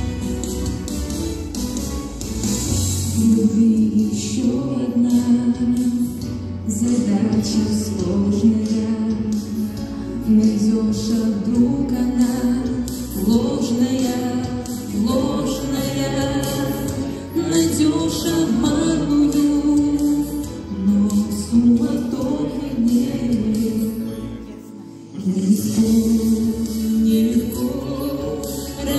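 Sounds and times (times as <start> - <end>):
musical accompaniment: 0.0 - 28.9
man and woman singing: 3.2 - 24.3, 25.2 - 28.9.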